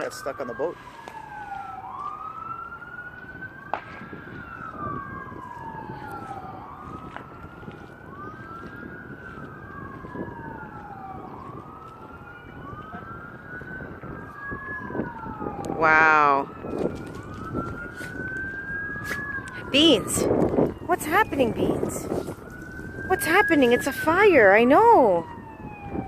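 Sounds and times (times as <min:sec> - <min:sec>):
sirens wailing: 0:00.0 - 0:26.0.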